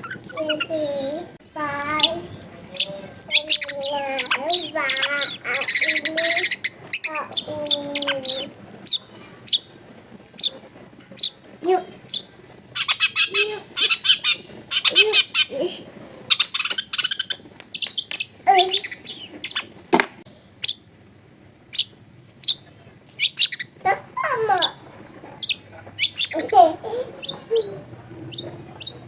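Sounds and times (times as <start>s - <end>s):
bird singing: 0.0s - 15.6s, 16.2s - 20.9s, 21.7s - 29.0s
bird fast chattering: 0.0s - 20.9s, 21.6s - 29.0s.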